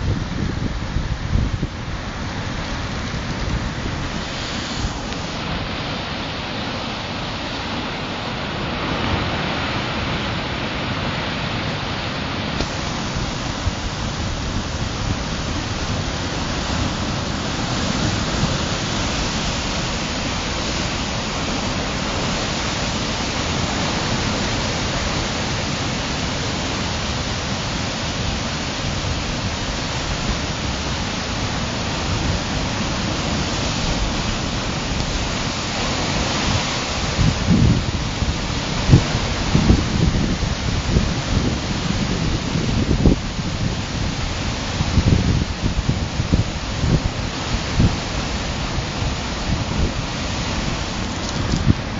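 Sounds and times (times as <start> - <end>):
storm surf breaking on rocks: 0.0 - 51.9.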